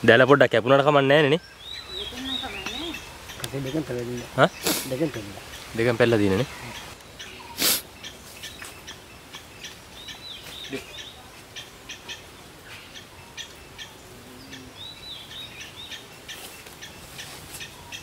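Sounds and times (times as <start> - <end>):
birds chirping: 0.0 - 18.0
bird warbling: 1.4 - 18.0.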